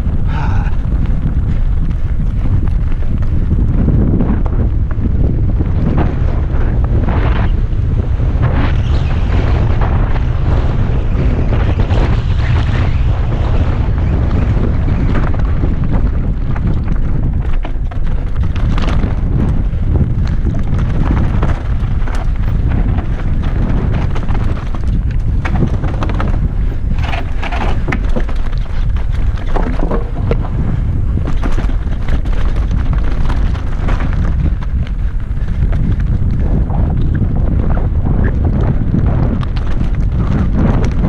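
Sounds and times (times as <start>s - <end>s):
bike tyres crunching over gravel: 0.0s - 41.0s
wind buffeting microphone: 0.0s - 41.0s.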